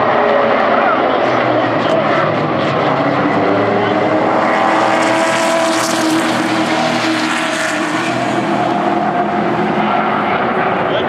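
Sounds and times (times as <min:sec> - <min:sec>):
racing truck engines blaring: 0:00.0 - 0:11.0.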